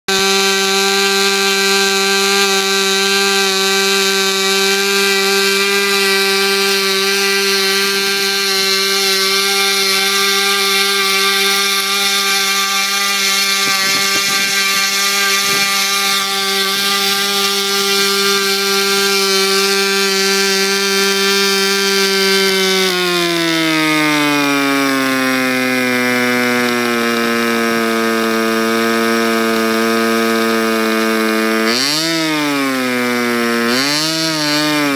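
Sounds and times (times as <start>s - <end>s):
model aero engine buzzing: 0.1s - 34.9s.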